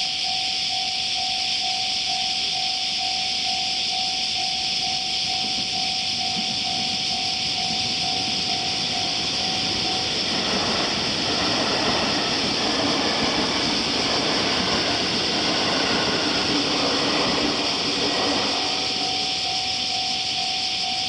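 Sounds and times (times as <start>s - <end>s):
level-crossing warning bell ringing: 0.0s - 21.0s
passing train rumble: 0.0s - 21.0s.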